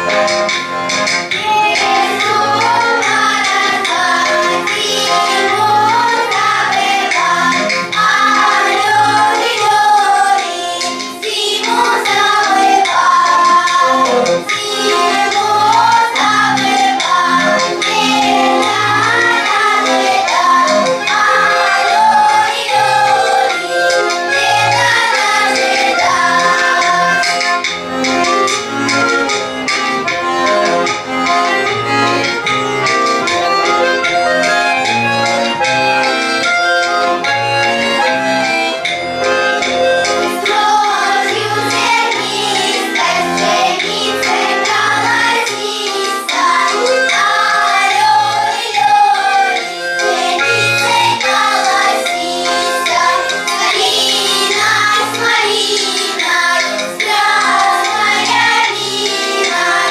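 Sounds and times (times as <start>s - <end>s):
children's choir singing: 0.0s - 27.6s, 33.1s - 59.9s
accordion oom-pah accompaniment: 0.0s - 59.9s.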